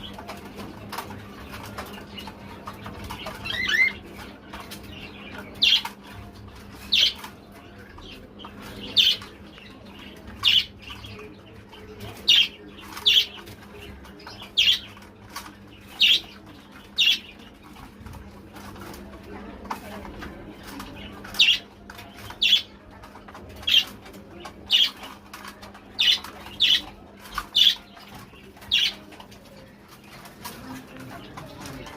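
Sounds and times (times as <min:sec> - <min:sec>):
pigeons making sharp high sounds: 0:00.0 - 0:31.9.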